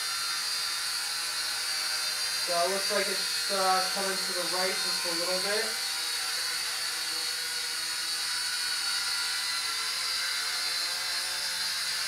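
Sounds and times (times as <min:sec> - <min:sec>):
quadcopter high-pitched whine: 0:00.0 - 0:12.0.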